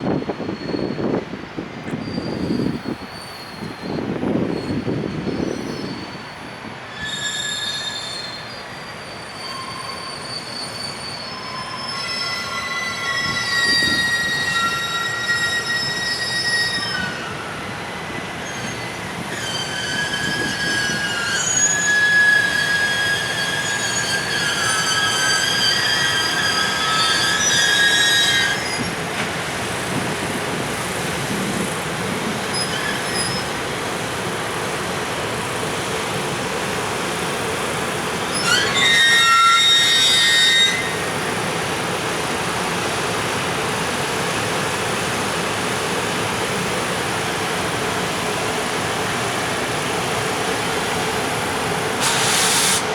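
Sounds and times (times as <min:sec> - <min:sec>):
low train rumbling: 0:00.0 - 0:52.9
train wheels squealing on rails: 0:00.0 - 0:52.9.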